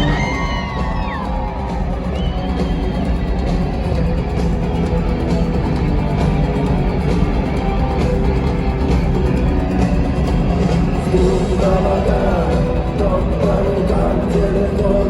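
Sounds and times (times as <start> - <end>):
electric guitar: 0.0 - 15.0
rock band playing live: 0.0 - 15.0.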